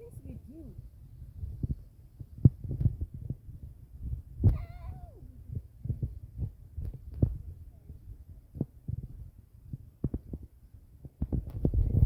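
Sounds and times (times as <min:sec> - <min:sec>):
thumps and rubbing on microphone: 0:00.8 - 0:04.9, 0:05.5 - 0:12.0.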